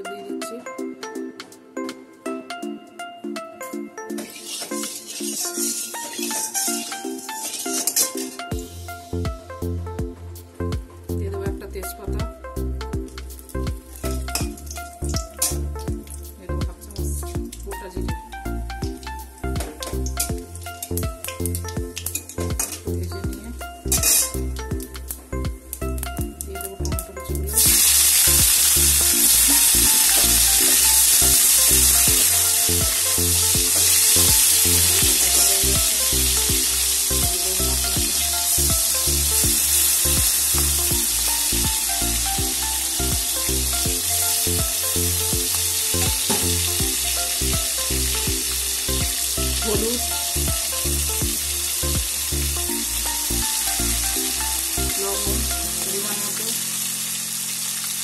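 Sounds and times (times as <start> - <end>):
tomato sizzling in hot oil: 4.1 - 9.0, 13.1 - 58.0.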